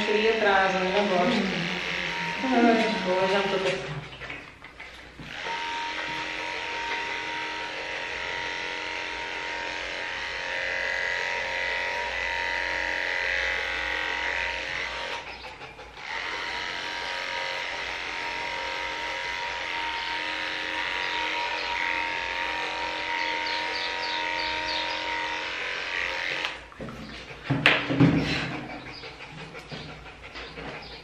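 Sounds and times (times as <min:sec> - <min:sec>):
electric dog clippers whining: 0:00.0 - 0:31.0.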